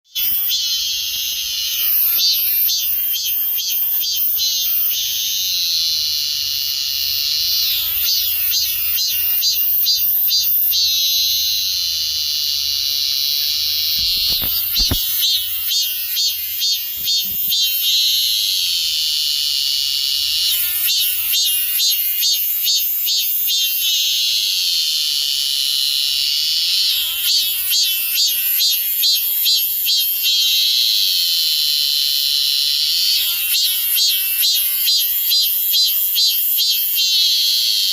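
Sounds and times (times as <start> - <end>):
cicada buzzing: 0.1 - 37.9.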